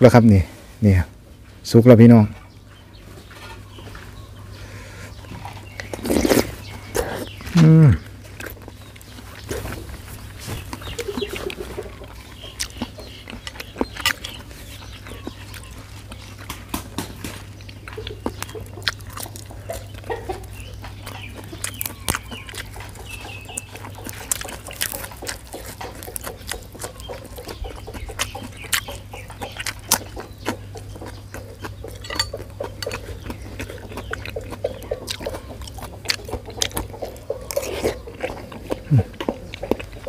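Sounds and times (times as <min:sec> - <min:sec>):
wet chewing and lip smacking: 0:05.1 - 0:40.0.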